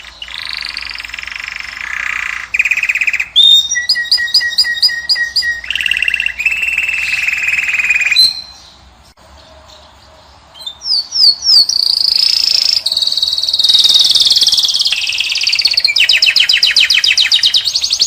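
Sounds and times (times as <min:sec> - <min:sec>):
finch singing: 0:00.0 - 0:18.0.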